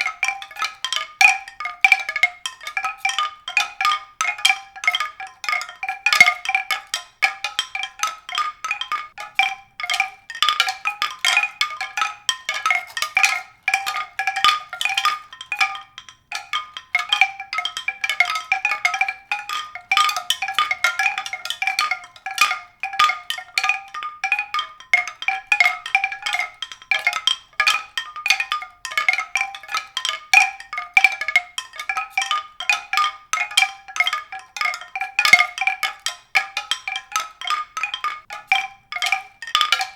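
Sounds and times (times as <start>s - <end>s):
mallet percussion music: 0.0s - 39.9s.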